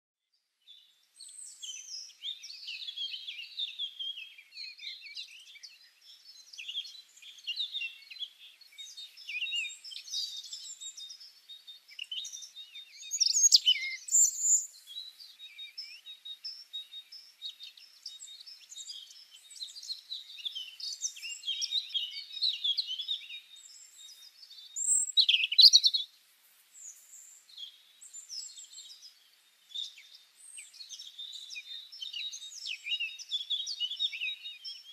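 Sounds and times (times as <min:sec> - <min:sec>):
small birds chirping: 0:00.3 - 0:34.9.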